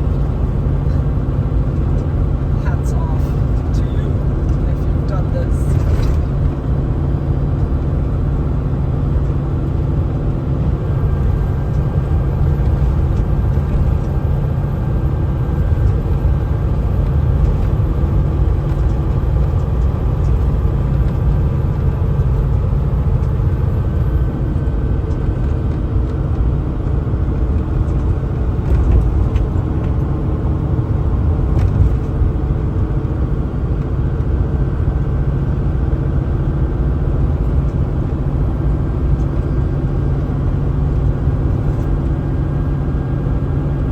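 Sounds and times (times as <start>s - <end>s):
road rumble: 0.0s - 43.9s
truck engine drone: 0.0s - 43.9s.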